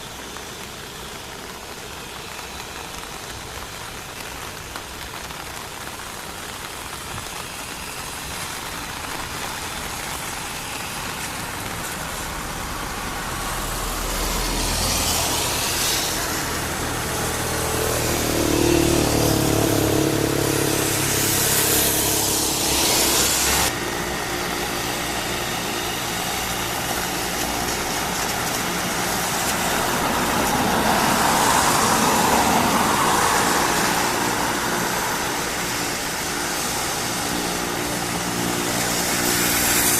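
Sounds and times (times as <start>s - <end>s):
turboprop engine and propeller: 0.0s - 39.9s.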